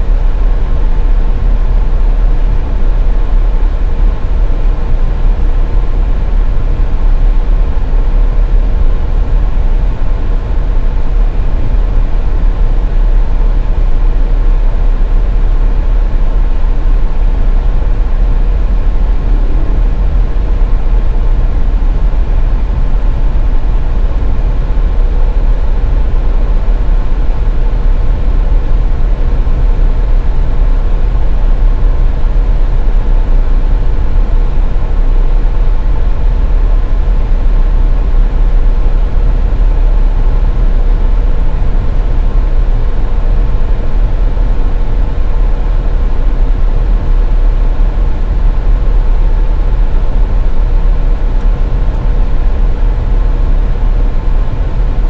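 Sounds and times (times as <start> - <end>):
car driving on highway: 0.0 - 55.0
faint steady whine: 0.0 - 55.0.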